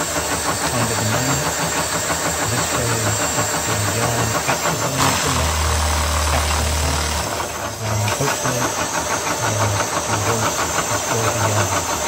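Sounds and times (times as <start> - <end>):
drill motor hum: 0.0 - 12.0
plastic gears clicking fast: 0.0 - 12.0.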